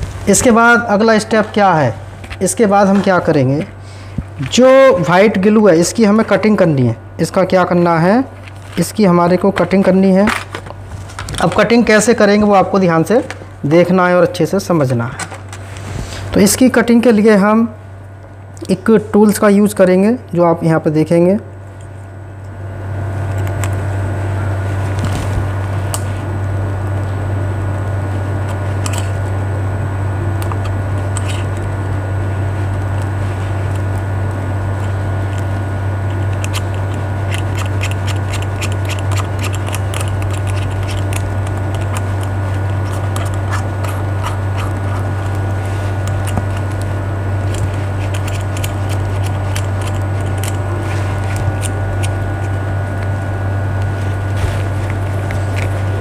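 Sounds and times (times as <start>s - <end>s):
hot-air station humming: 0.0s - 56.0s.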